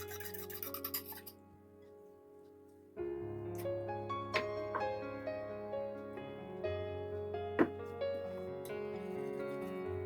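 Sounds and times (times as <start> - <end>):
keyboard melody music: 0.0 - 10.0.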